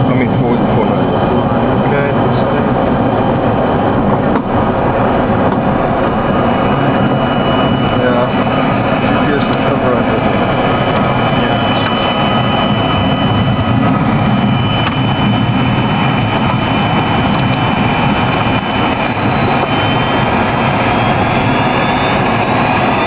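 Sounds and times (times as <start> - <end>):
jet engines rumbling: 0.0 - 23.0
steady high whine: 0.0 - 23.0
whine rising in pitch: 0.0 - 23.0.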